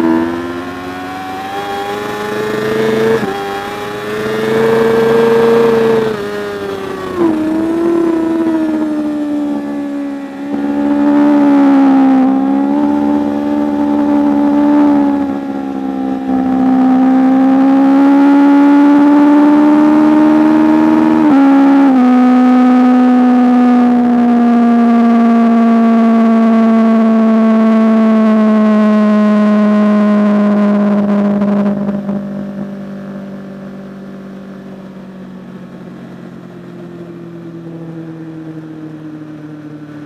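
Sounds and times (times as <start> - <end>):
racing motorcycle engine revving: 0.0 - 40.0.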